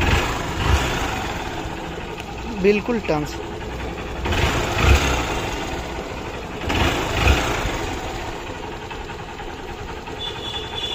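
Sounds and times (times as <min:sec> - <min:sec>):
motorcycle engine idling and revving: 0:00.0 - 0:10.9.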